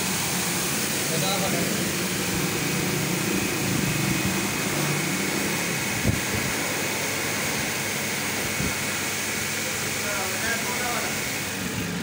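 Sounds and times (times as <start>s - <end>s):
washer pump humming: 0.0s - 12.0s
water jet hissing from nozzle: 0.0s - 12.0s.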